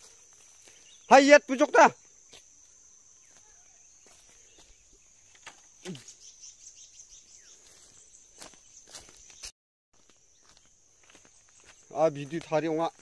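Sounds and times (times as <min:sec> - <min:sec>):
footsteps crunching on leaves: 0:00.0 - 0:01.1, 0:02.2 - 0:06.2, 0:07.1 - 0:13.0.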